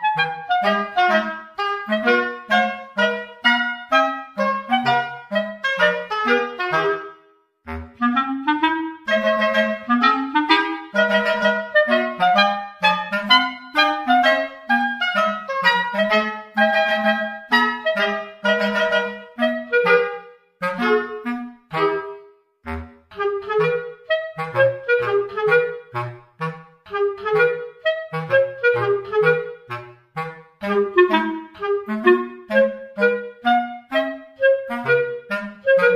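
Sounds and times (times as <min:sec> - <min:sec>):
lively melodic music: 0:00.0 - 0:35.9.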